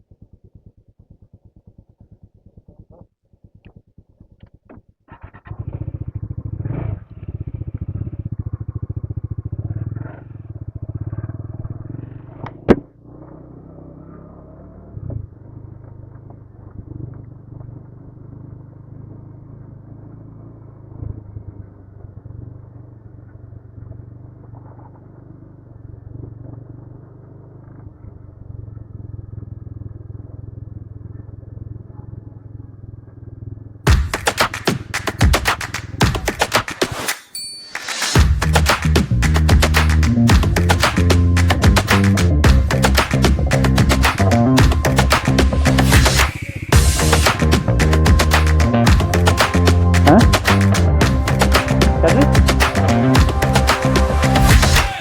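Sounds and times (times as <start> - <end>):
motorcycle engine: 0.0 - 36.4, 38.0 - 55.0.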